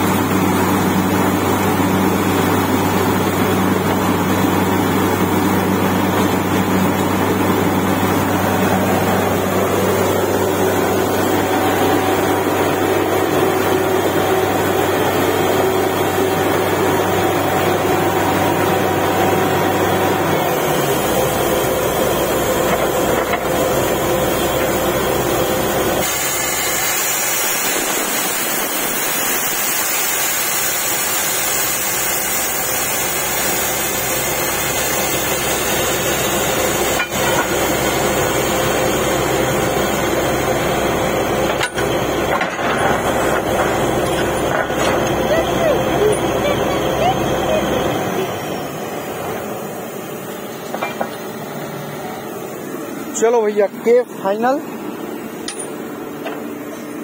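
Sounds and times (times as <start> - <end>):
drilling rig engine drone: 0.0 - 55.6.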